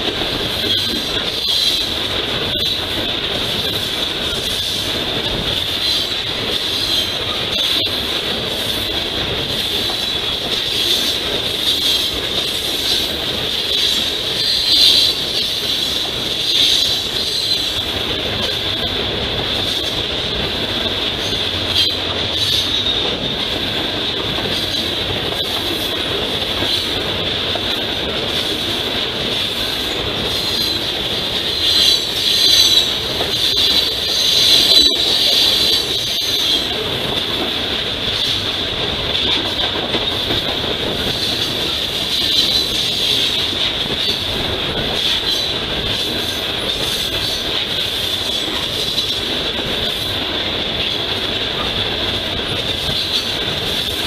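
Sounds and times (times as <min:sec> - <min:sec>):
freight train wheels squealing: 0:00.0 - 0:27.0, 0:27.7 - 0:37.4, 0:39.2 - 0:54.0
wheels rumbling on rail: 0:00.0 - 0:54.0.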